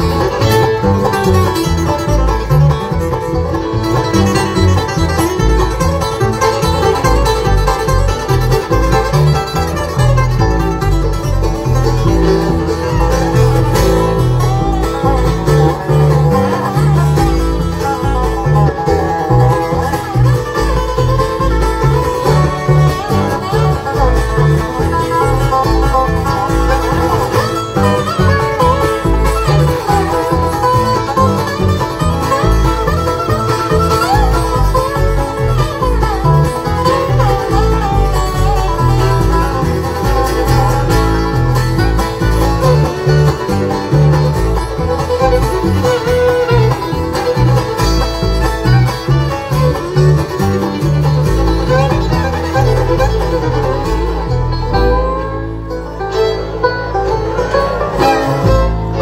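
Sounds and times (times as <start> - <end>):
acoustic guitar: 0.0 - 59.0
banjo: 0.0 - 59.0
fiddle: 0.0 - 59.0
upright bass: 0.0 - 59.0.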